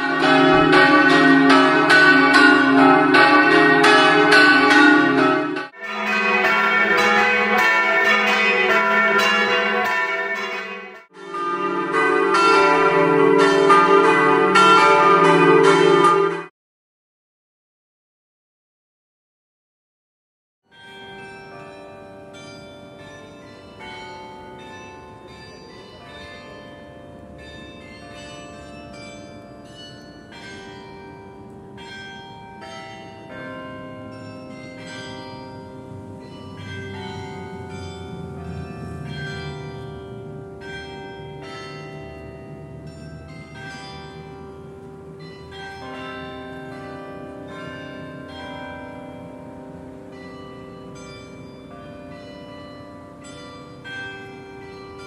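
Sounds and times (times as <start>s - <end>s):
carillon bells playing melody: 0.0s - 16.4s, 20.7s - 55.0s.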